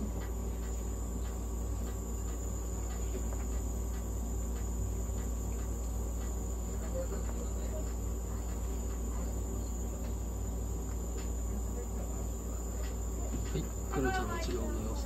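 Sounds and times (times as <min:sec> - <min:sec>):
nebulizer hum and whine: 0:00.0 - 0:15.0.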